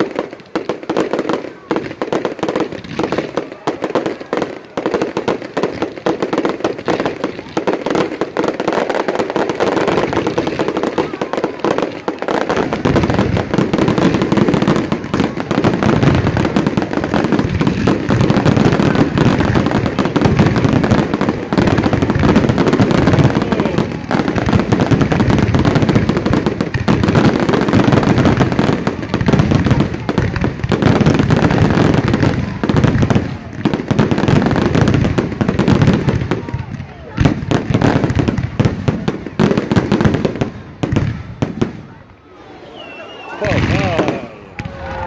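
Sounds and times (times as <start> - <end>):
fireworks booming and crackling: 0.0 - 45.0.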